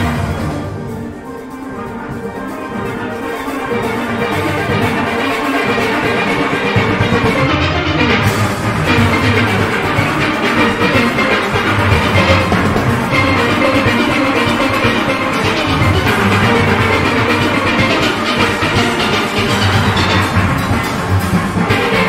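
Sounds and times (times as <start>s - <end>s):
bass steelpans: 0.0s - 22.0s
steel band playing: 0.0s - 22.0s.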